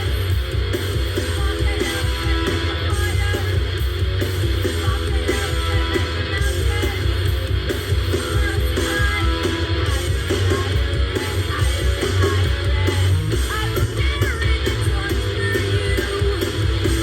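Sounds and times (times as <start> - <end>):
rock song with guitar and bass: 0.0 - 17.0.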